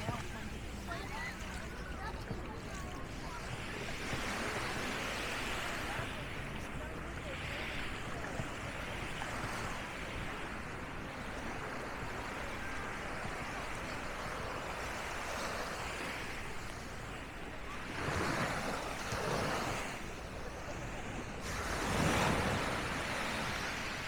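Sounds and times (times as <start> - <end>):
waves washing onto beach: 0.0 - 24.0.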